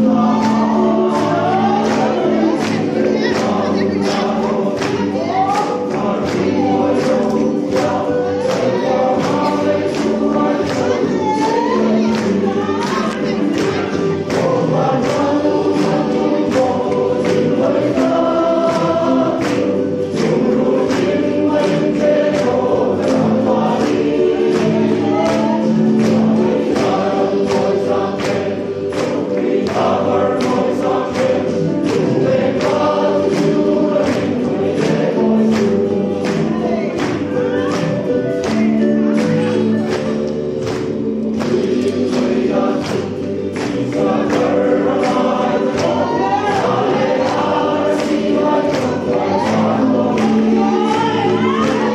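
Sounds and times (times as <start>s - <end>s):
men's choir singing gospel: 0.0s - 51.9s
steady percussion beat: 0.0s - 51.9s.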